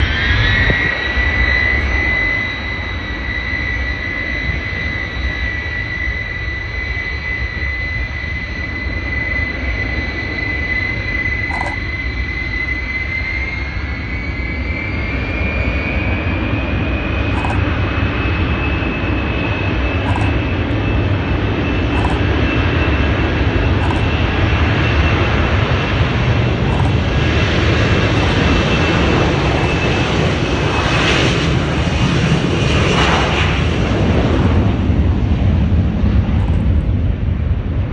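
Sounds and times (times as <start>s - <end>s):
airliner engines whining and roaring: 0.0s - 37.9s.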